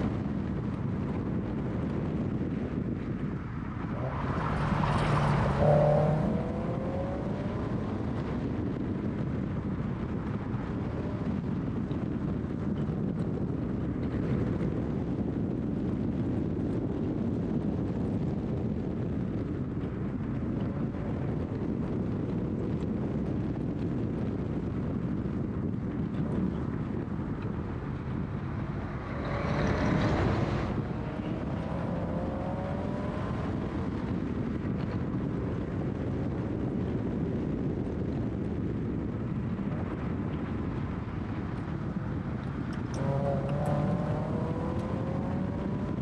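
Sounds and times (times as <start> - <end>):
car engine driving: 0.0 - 46.0
wind rushing on microphone: 0.0 - 46.0.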